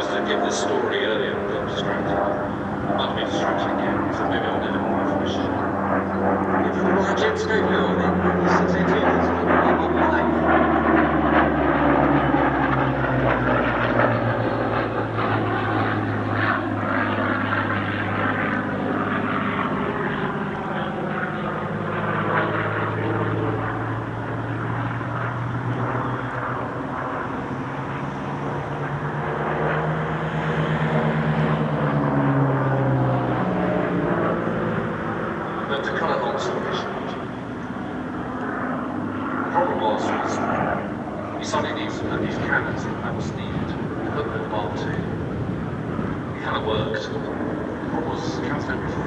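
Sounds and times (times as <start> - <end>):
propeller plane engine drone: 0.0 - 49.0.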